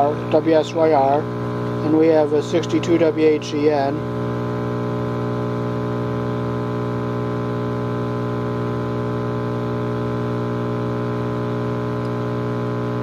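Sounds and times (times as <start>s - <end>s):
radio speaker humming: 0.0s - 13.0s.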